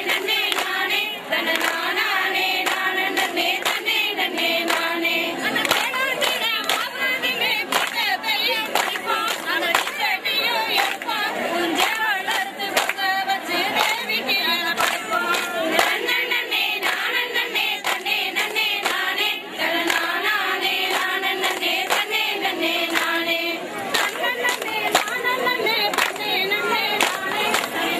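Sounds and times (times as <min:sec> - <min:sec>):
hand claps: 0:00.0 - 0:14.1, 0:14.7 - 0:27.9
women singing in chorus: 0:00.0 - 0:27.9.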